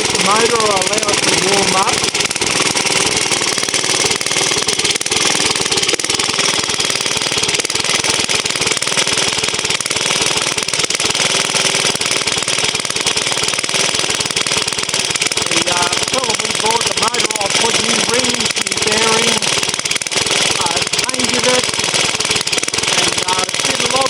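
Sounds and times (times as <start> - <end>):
stationary engine running: 0.0 - 24.0.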